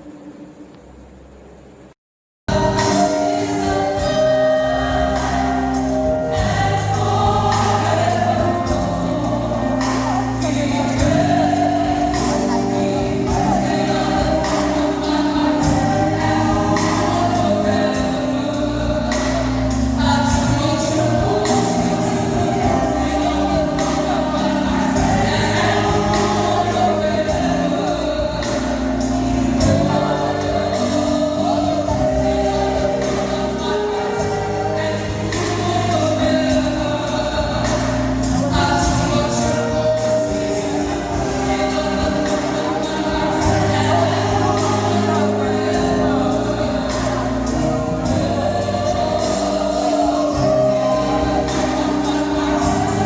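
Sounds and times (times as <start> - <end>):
gospel choir singing: 2.5 - 53.0
steady beat: 2.6 - 53.0.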